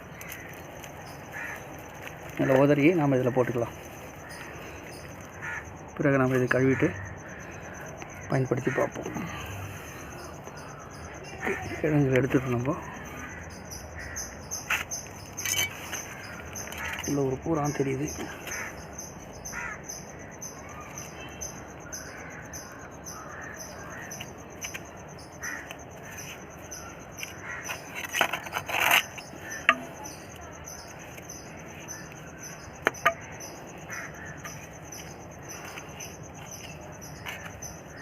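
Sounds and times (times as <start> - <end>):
insect chirping: 0.0 - 38.0.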